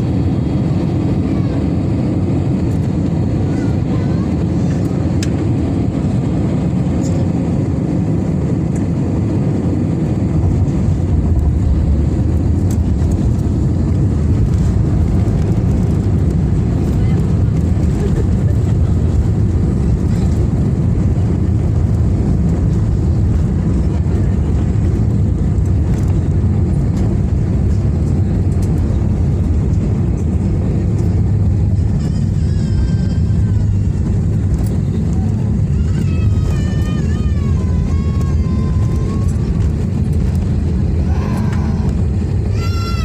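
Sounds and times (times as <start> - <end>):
airplane landing rumble: 0.0 - 43.0.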